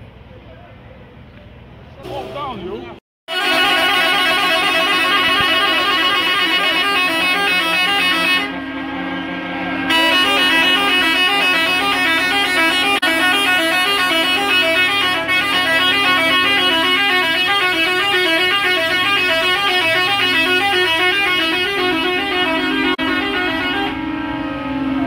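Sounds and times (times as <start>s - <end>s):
truck horns blaring: 3.3s - 25.0s.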